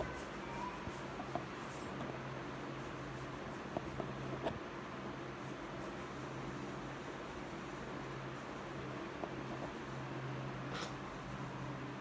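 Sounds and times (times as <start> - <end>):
fingertips scratching through hair: 0.0 - 12.0.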